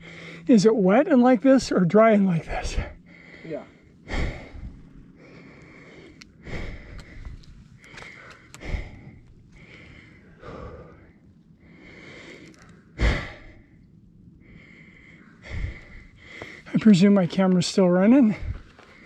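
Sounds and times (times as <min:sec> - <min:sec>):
person breathing hard: 0:00.0 - 0:00.5, 0:02.6 - 0:16.8, 0:18.2 - 0:19.0.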